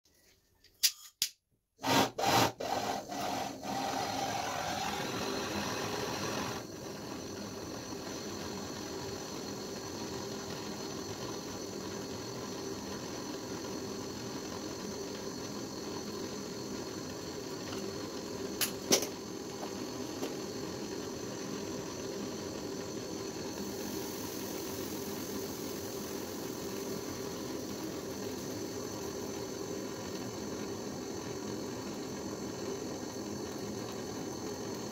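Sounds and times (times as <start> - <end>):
torch flame hissing: 1.8 - 34.9.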